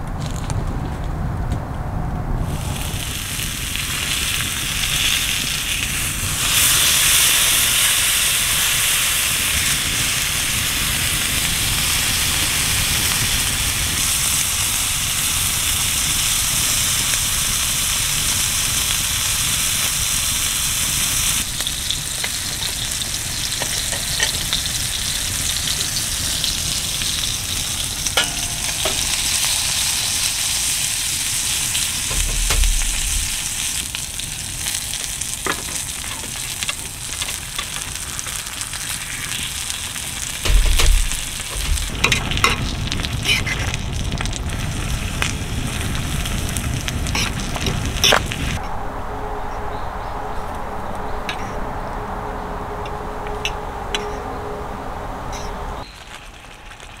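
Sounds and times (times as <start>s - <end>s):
food sizzling in a pan: 2.5s - 48.6s.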